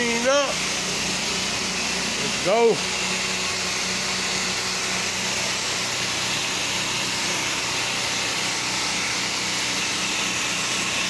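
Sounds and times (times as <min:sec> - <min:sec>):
faint machine hum: 0:00.0 - 0:11.0.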